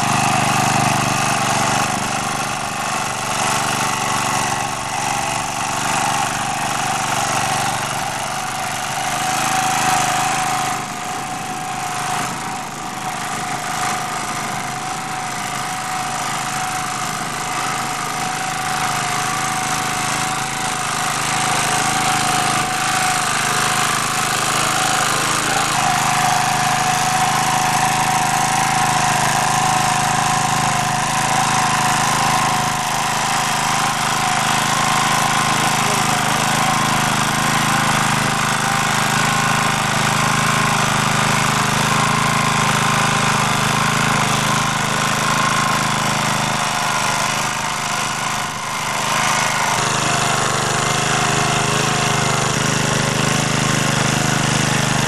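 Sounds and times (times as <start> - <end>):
small tractor engine under load: 0.0 - 55.0
tiller churning soil: 0.0 - 55.0.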